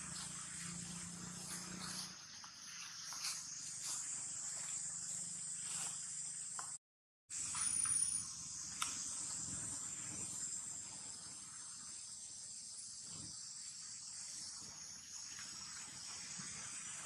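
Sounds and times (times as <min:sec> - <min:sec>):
insects trilling: 0:00.0 - 0:06.8, 0:07.4 - 0:17.0.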